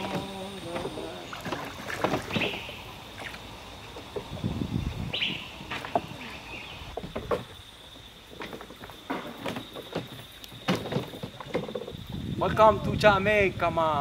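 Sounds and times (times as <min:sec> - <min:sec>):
knocks and splashes of raft poling: 0:00.0 - 0:13.0.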